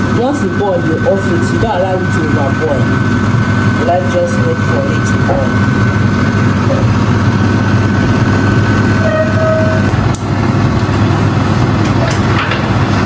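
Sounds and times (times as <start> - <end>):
loud low rumbling: 0.0 - 13.0.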